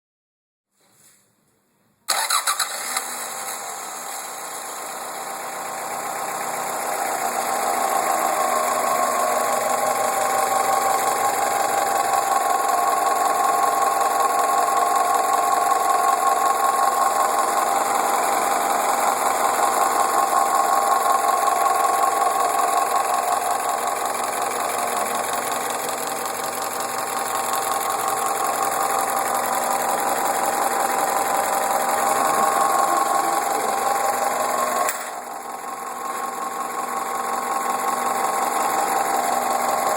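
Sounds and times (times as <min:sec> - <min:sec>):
car engine running with knock: 0:04.1 - 0:39.9.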